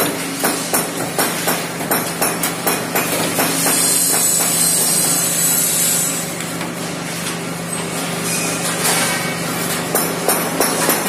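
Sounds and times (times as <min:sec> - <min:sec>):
machine mechanical hum: 0:00.0 - 0:11.0.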